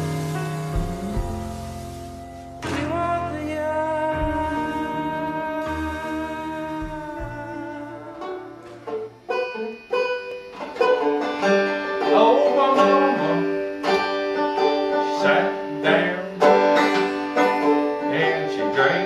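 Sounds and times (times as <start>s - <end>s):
banjo picking: 0.0s - 19.0s.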